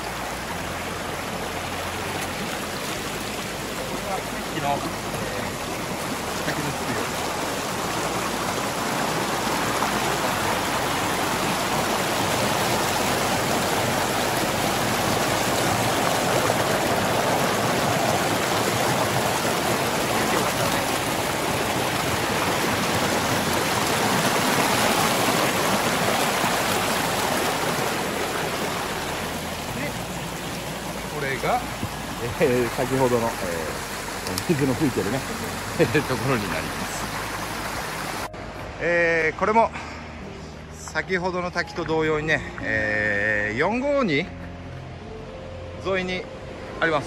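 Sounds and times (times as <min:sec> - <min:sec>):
stream rushing over rocks: 0:00.0 - 0:44.2.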